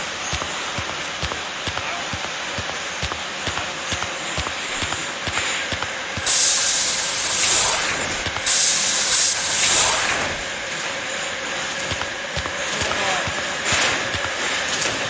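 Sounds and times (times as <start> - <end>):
compressed air hissing: 0.0 - 15.0
train carriage running noise: 0.0 - 15.0.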